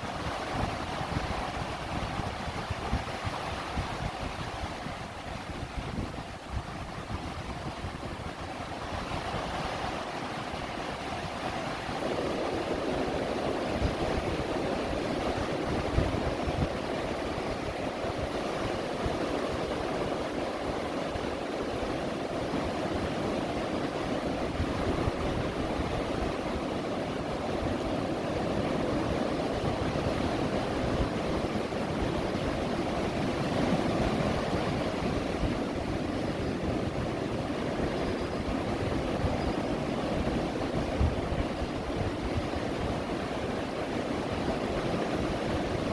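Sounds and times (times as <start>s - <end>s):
waves washing against pilings: 0.0s - 45.9s.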